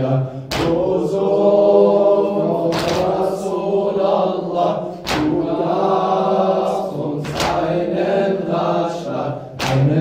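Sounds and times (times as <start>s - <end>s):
man chanting into microphone: 0.0s - 10.0s.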